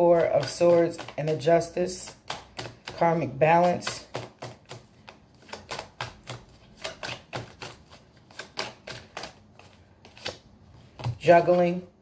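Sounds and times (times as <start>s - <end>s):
cards being shuffled: 0.4s - 11.8s.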